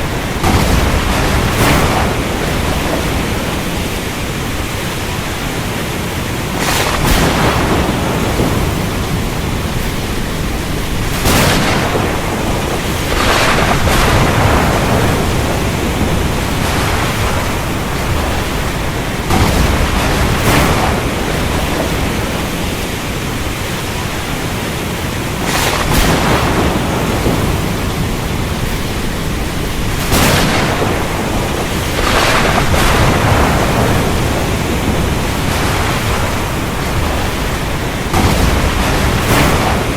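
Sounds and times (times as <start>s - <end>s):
thunder cracks and rumbling: 0.0s - 5.6s, 6.4s - 24.3s, 25.3s - 39.9s
heavy rain: 0.0s - 39.9s.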